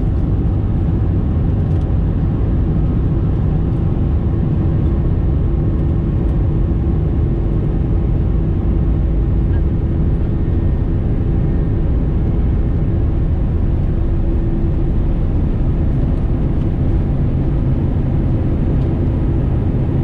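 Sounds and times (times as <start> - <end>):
airplane engines rumbling: 0.0 - 20.0.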